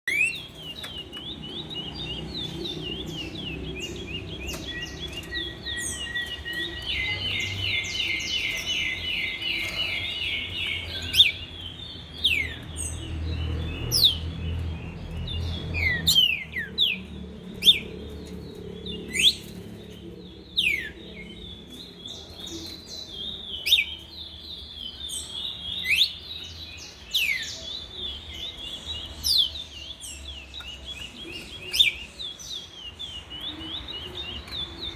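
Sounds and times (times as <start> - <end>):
songbirds chattering trill: 0.0 - 34.9.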